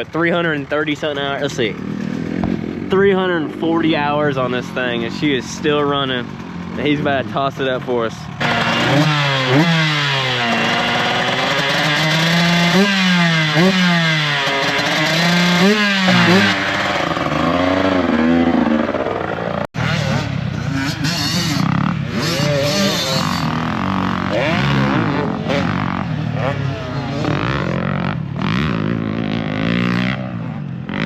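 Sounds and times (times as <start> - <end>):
dirt bike engines: 0.0 - 31.0
motocross bike revving: 0.0 - 31.0.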